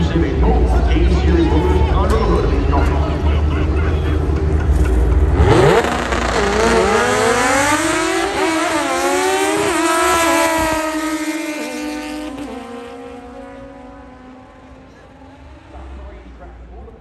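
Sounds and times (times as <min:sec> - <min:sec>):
race car accelerating hard: 0:00.3 - 0:17.0.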